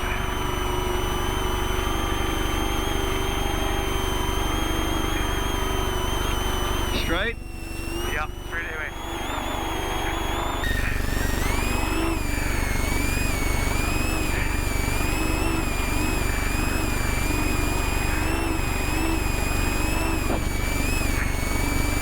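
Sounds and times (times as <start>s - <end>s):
high whine: 0.0s - 22.0s
truck engine and drivetrain noise: 0.0s - 22.0s.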